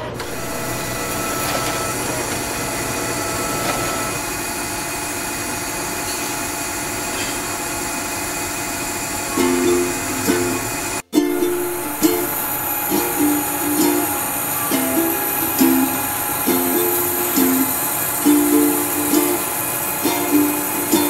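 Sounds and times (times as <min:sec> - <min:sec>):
lathe machining metal: 0:00.0 - 0:21.0
thin steady whine: 0:00.0 - 0:21.0.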